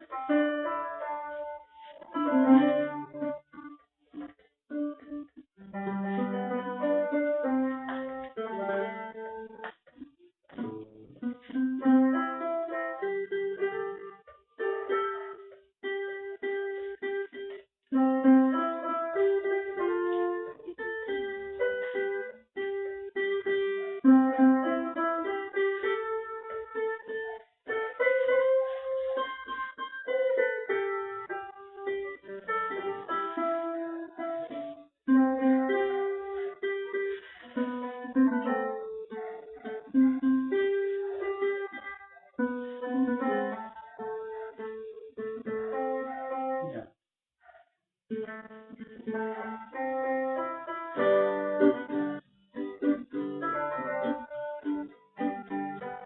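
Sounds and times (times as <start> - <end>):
electronic organ melody: 0.0 - 9.6, 17.9 - 46.8, 49.3 - 56.0
guitar accompaniment: 0.0 - 56.0.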